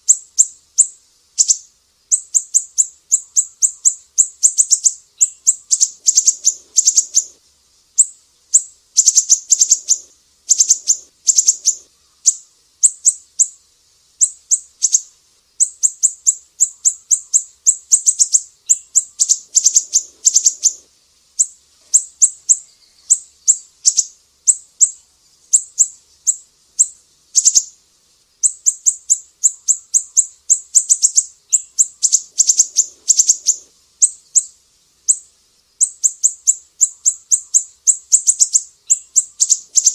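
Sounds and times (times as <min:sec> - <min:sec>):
bird singing rapid high chirps: 0:00.0 - 0:07.4, 0:08.0 - 0:13.6, 0:14.2 - 0:27.8, 0:28.4 - 0:39.9.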